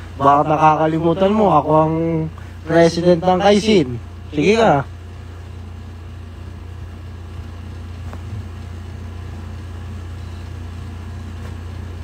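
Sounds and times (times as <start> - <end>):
steady low hum with hiss: 0.0 - 12.0.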